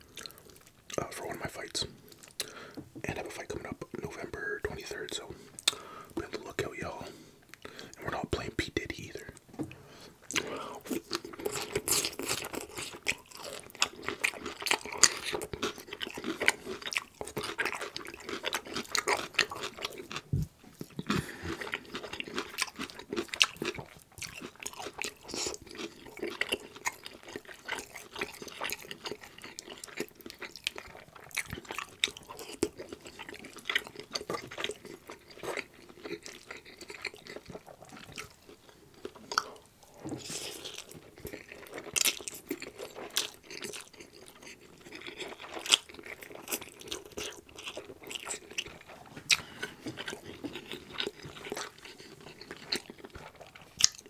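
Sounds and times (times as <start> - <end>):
man chewing and mouth noises: 0.0 - 54.0.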